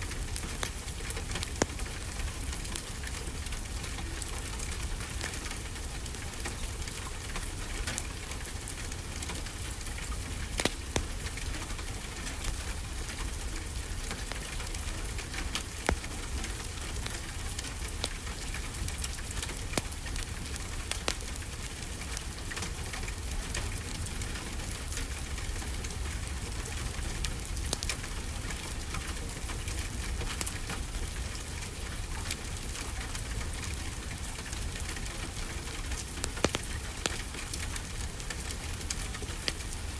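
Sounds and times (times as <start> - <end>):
steady rainfall: 0.0 - 39.9
wood fire crackling: 0.0 - 39.9.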